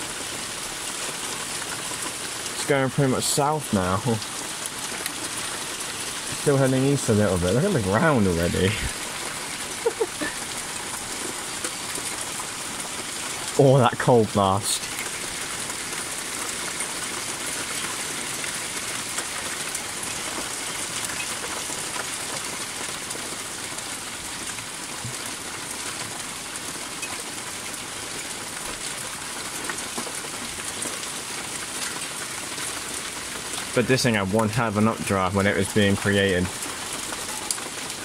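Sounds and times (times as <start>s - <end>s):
hail pelting pavement and gravel: 0.0s - 38.0s.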